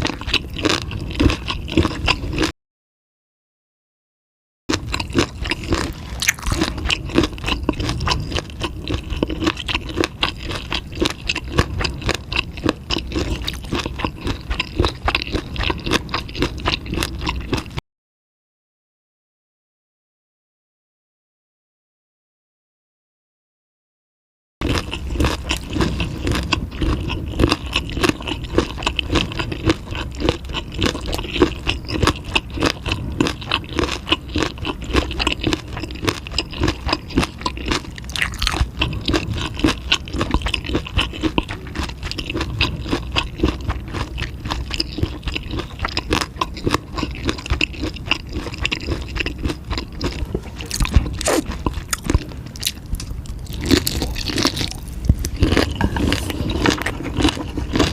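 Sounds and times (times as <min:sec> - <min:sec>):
crunchy chewing mouth sounds: 0:00.0 - 0:02.5, 0:04.7 - 0:17.8, 0:24.6 - 0:57.9.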